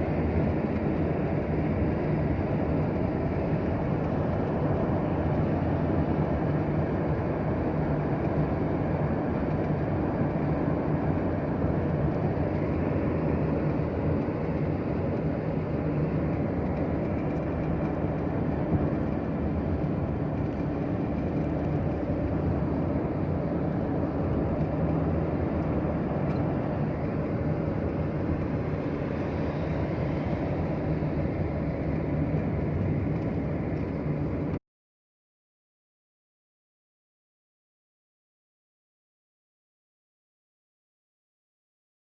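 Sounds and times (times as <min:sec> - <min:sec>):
vehicle low rumble: 0:00.0 - 0:34.6.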